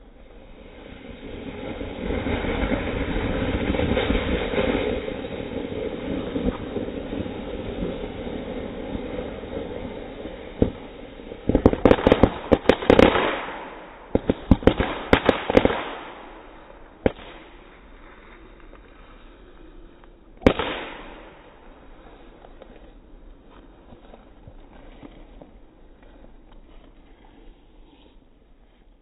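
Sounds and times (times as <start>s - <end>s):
firework fizzing: 0.2s - 26.0s
firework crackling pops: 0.6s - 27.3s.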